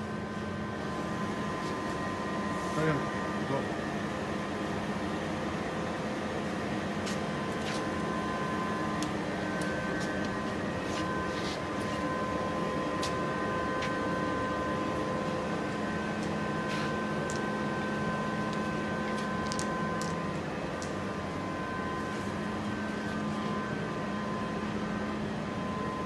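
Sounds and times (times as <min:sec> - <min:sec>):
machine hum with fixed tones: 0:00.0 - 0:26.0.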